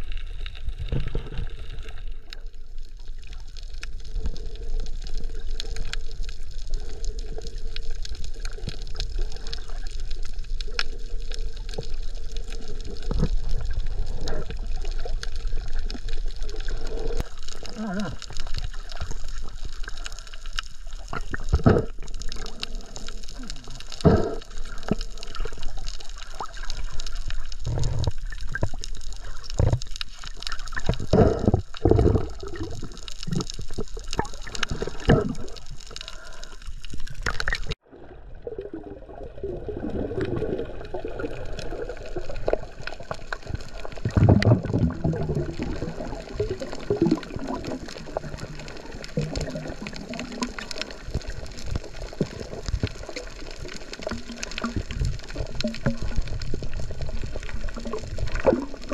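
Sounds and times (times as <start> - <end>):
underwater gurgle and hiss: 0.0 - 58.9
water splashing and bubbling: 0.0 - 58.9.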